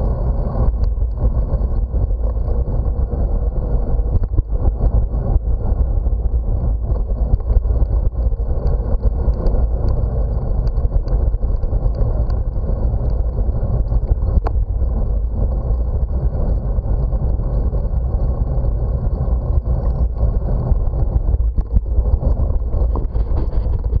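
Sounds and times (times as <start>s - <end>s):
bicycle tyre road noise: 0.0s - 24.0s
wind buffeting microphone: 0.0s - 24.0s.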